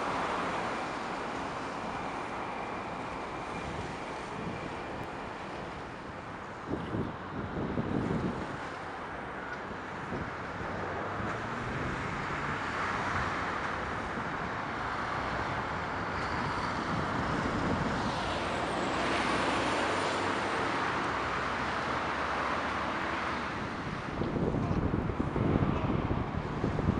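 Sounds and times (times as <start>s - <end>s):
distant road traffic: 0.0s - 26.9s
wind: 0.0s - 26.9s.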